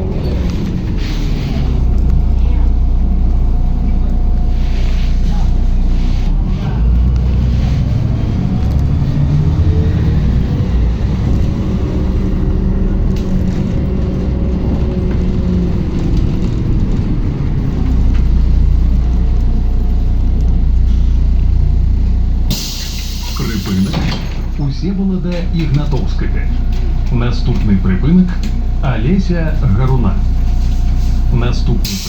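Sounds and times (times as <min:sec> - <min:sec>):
bus engine rumble: 0:00.0 - 0:32.0
engine whine: 0:00.0 - 0:32.0.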